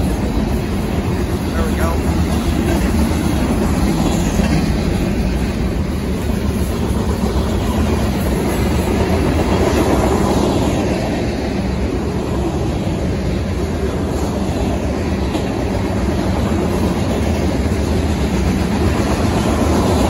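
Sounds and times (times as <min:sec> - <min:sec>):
steel train wheels on rail: 0:00.0 - 0:20.0.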